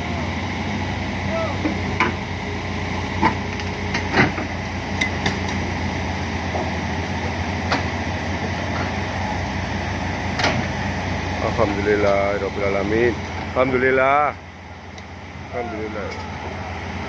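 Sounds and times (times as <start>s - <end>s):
diesel engines running under load: 0.0s - 17.0s.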